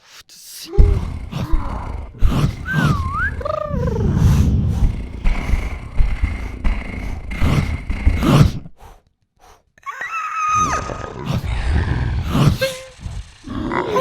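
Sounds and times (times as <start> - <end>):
high sliding vocal squeal: 0.7 - 8.5, 10.1 - 14.0
person growling and groaning: 0.7 - 9.0, 9.8 - 14.0.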